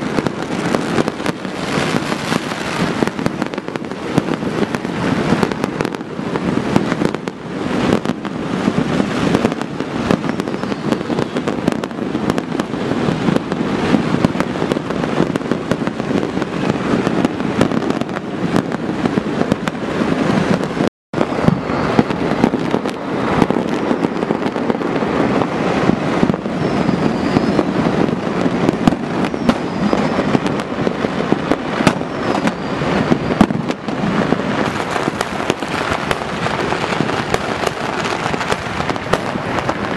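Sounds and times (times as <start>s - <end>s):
fireworks cracking and banging: 0.0s - 39.9s.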